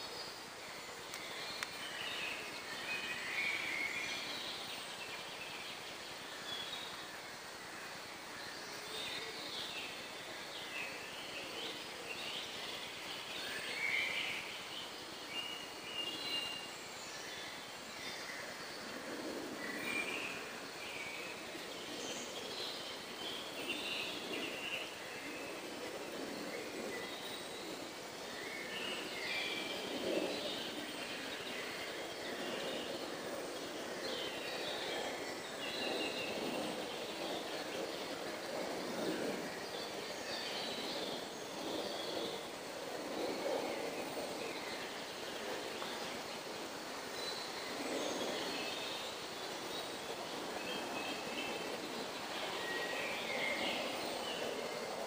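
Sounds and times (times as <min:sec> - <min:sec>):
birds singing and chirping: 0:00.0 - 0:55.0
low background noise: 0:00.0 - 0:55.0.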